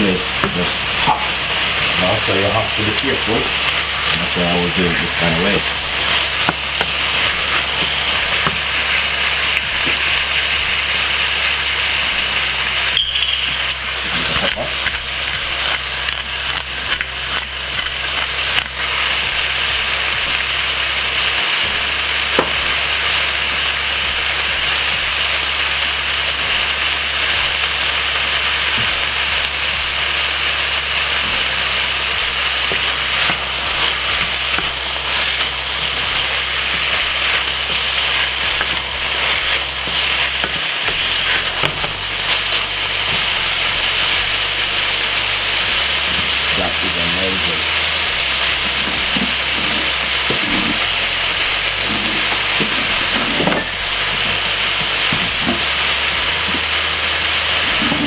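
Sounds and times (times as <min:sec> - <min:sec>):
vegetables sizzling in oil: 0:00.0 - 0:58.0.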